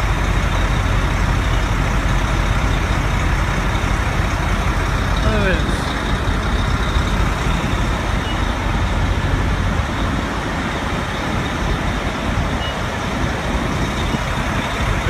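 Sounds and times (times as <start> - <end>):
diesel truck engines rumbling: 0.0 - 15.0.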